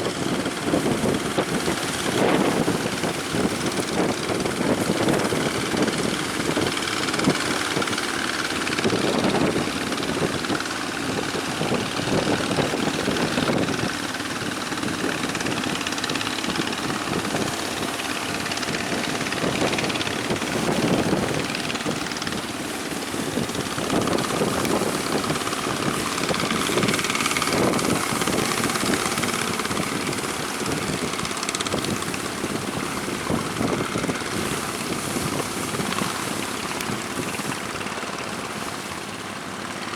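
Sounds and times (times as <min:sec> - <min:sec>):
wind rushing over microphone: 0:00.0 - 0:37.9
boat engine running: 0:00.0 - 0:39.9
waves washing: 0:00.0 - 0:39.9.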